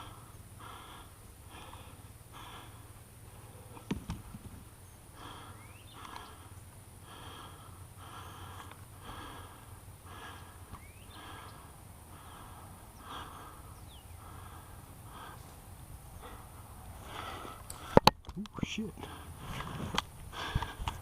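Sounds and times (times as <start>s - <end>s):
person breathing: 0.0s - 3.9s, 5.1s - 18.1s, 18.8s - 21.0s.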